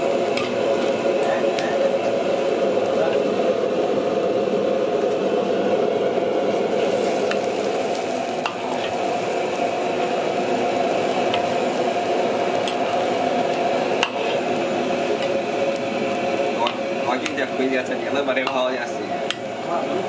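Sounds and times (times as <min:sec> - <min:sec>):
sizzling hiss in wok: 0:00.0 - 0:20.0.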